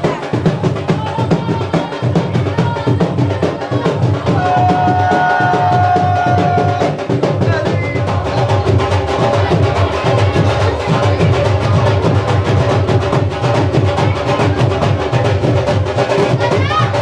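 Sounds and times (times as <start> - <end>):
fast dense drumming: 0.0 - 17.0.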